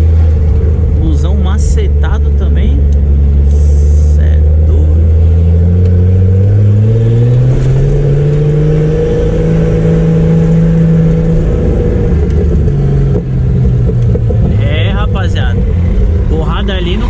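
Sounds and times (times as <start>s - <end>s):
car engine pulling: 0.0s - 17.0s.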